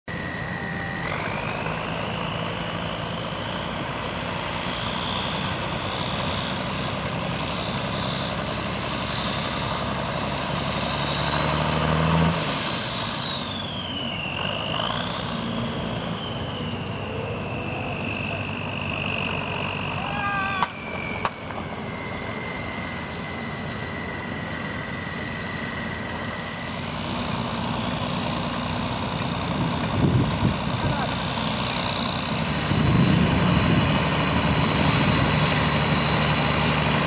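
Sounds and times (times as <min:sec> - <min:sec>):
high turbo whine: 0:00.0 - 0:37.0
truck engine running under load: 0:00.1 - 0:37.0.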